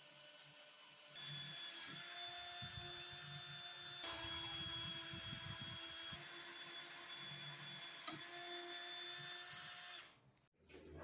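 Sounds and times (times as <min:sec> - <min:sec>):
power tool motor whining: 0:00.0 - 0:10.1.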